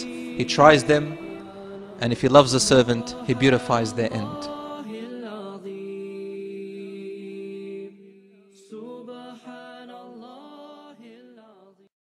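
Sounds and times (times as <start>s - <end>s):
a cappella voice singing: 0.0s - 11.9s.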